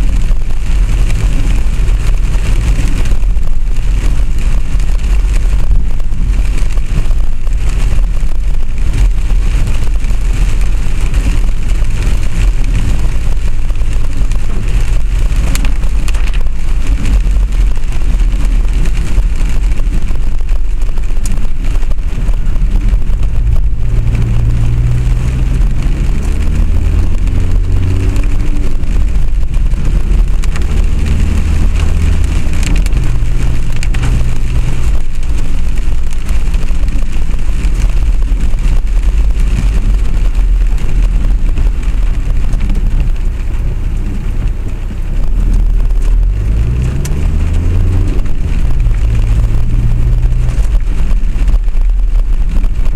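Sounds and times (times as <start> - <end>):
rain and road noise hiss: 0.0 - 52.9
vehicle motor rumble: 0.0 - 52.9.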